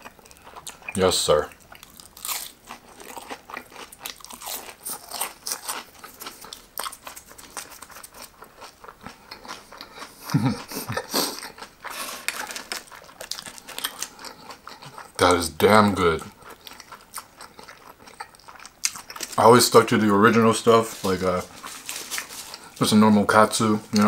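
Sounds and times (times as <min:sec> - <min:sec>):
crunchy chewing: 0:00.0 - 0:22.8.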